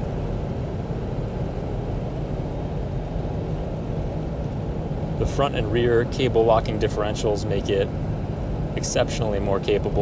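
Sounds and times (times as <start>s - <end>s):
diesel engine running: 0.0s - 10.0s
road and tyre noise: 0.0s - 10.0s.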